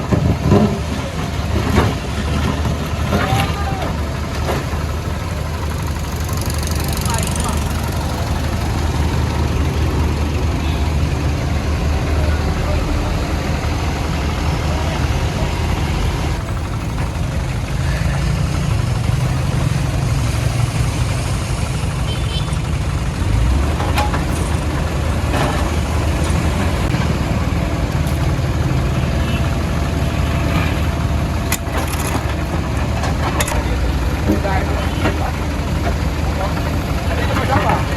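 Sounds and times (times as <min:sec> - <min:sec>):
diesel engine running at low revs: 0:00.0 - 0:37.9.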